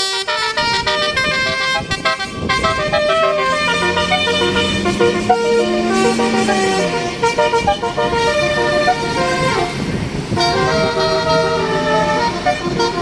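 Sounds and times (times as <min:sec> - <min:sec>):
multi-tone musical bus horn: 0:00.0 - 0:13.0.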